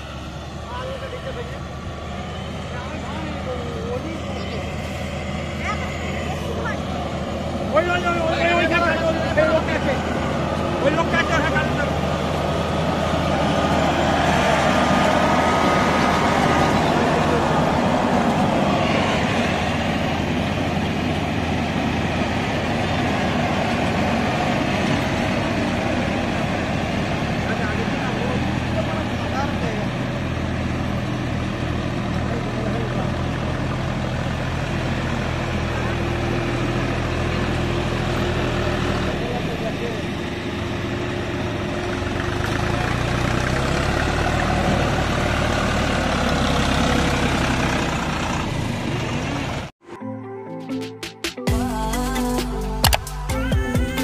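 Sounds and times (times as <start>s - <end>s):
diesel engine running: 0.0s - 49.8s.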